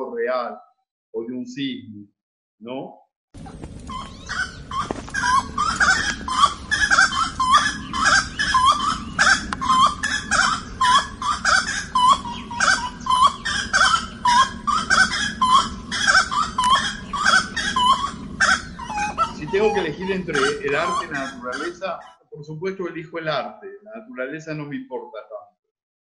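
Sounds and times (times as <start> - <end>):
birds chirping: 3.4 - 24.8.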